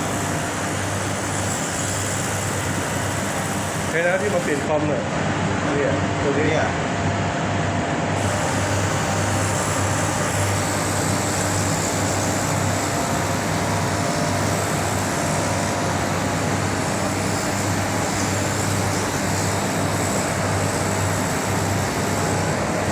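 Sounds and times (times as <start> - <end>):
fan air rushing: 0.0 - 22.9.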